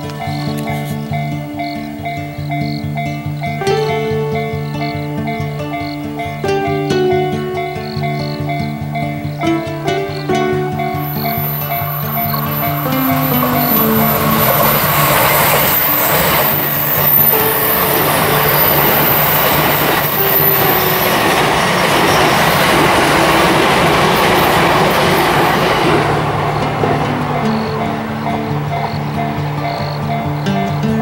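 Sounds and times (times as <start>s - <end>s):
electric train passing at speed: 0.0s - 31.0s.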